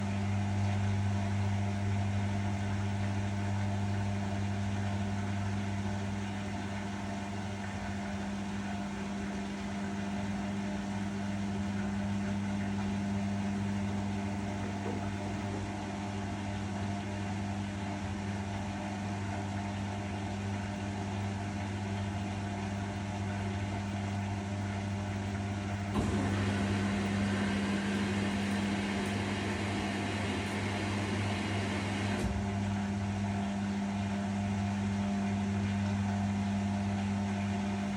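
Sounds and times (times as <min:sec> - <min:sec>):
washing machine spinning: 0:02.6 - 0:37.9.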